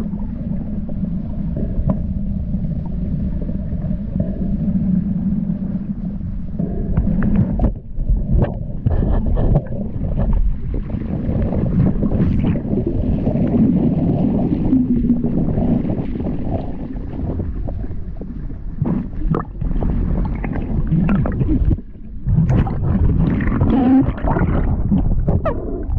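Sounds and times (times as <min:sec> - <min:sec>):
water sloshing and rumbling: 0:00.0 - 0:25.9.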